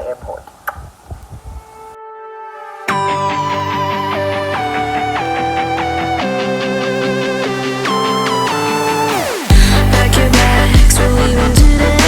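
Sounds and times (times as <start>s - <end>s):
held steady music tone: 1.3s - 12.0s
loud music chord: 1.9s - 12.0s.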